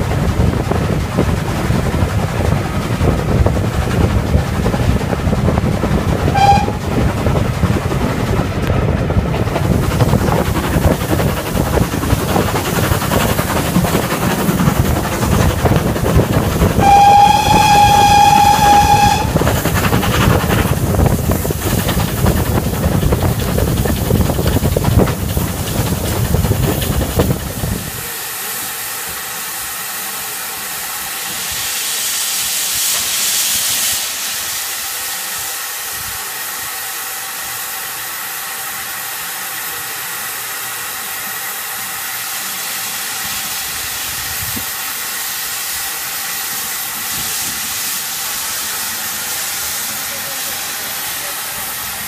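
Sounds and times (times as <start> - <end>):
steam locomotive hissing: 0.0 - 52.0
train rumble: 0.0 - 52.0.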